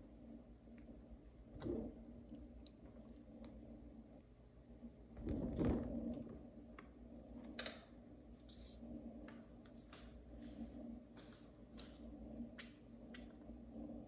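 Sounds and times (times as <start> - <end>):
low equipment hum: 0.0 - 14.0.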